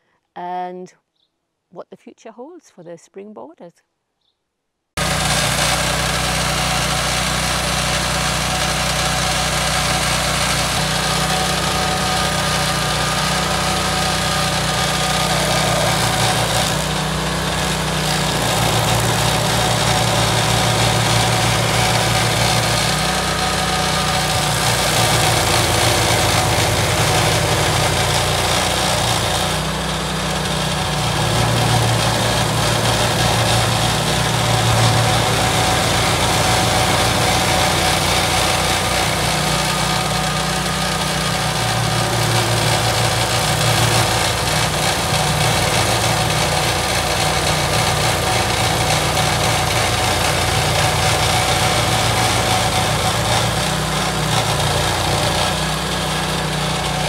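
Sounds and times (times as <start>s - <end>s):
stump grinder grinding wood: 5.0s - 57.0s.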